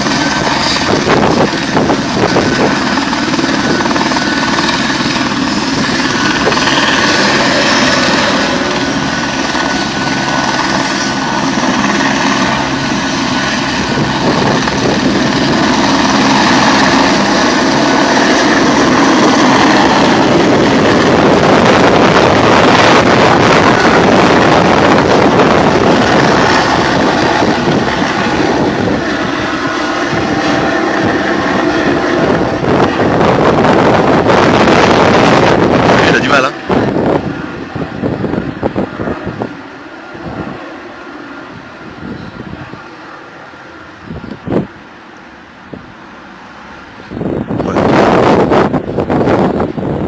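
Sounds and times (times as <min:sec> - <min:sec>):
helicopter turbine and rotor: 0:00.0 - 0:50.0.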